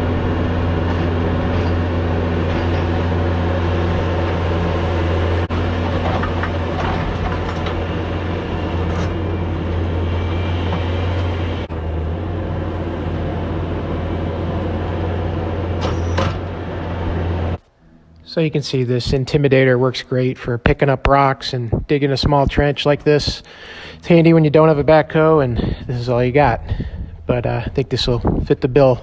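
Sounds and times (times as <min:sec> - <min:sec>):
diesel engine droning: 0:00.0 - 0:19.4, 0:22.5 - 0:29.0.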